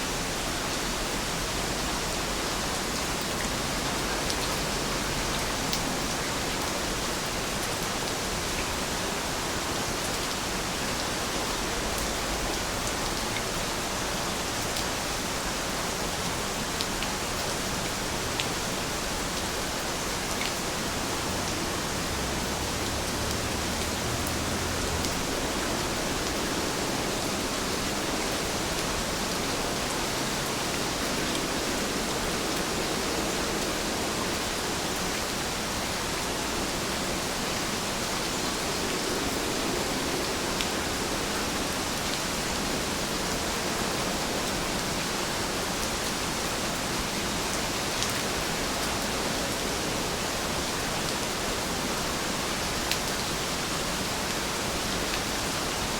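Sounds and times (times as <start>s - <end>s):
steady rainfall hiss: 0.0s - 55.9s.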